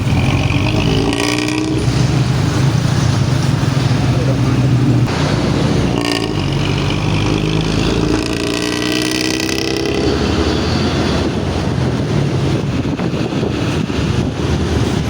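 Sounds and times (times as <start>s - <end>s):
bus engine growling: 0.0s - 15.0s.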